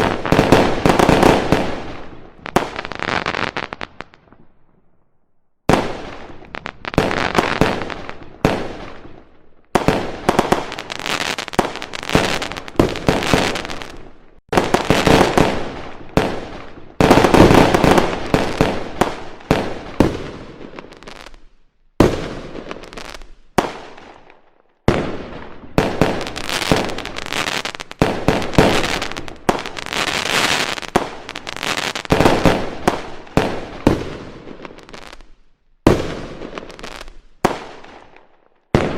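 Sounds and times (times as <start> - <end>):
fireworks bangs and crackling: 0.0 - 4.6, 5.6 - 38.9.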